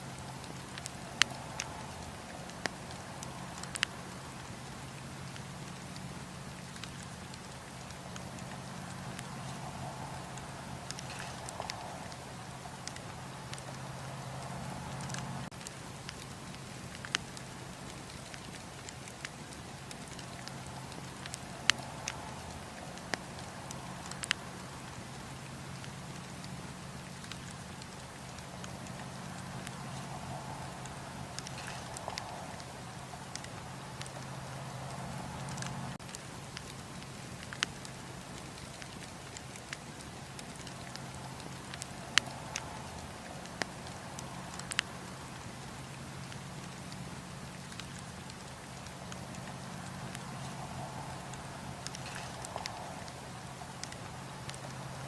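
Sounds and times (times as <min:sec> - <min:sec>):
campfire crackling and popping: 0:00.0 - 0:55.0
fire low rush: 0:00.1 - 0:55.0.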